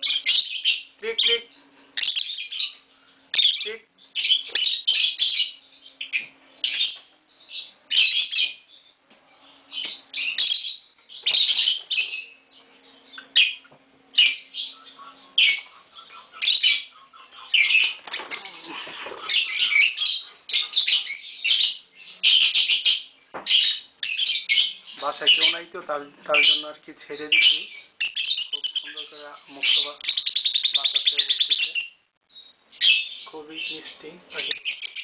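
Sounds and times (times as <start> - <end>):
lovebirds chirping and squawking: 0.0 - 35.0.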